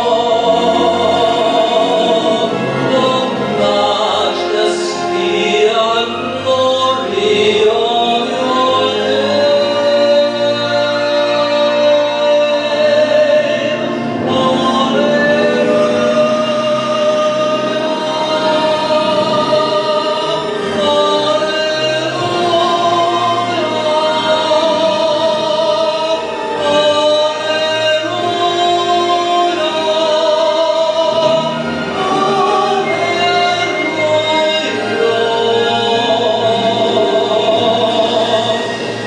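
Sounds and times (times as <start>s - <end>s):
man singing a hymn: 0.0s - 39.0s
musical accompaniment: 0.0s - 39.0s.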